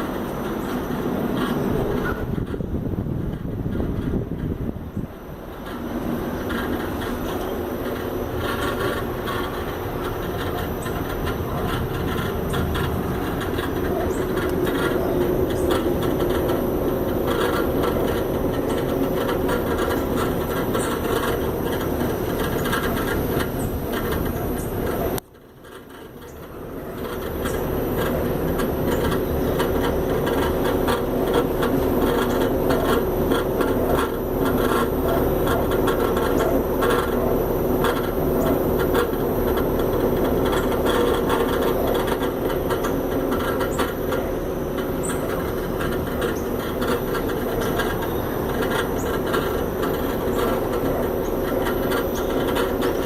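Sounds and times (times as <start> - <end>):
air conditioner humming: 0.0 - 53.0
rough irregular rattling: 0.0 - 53.0.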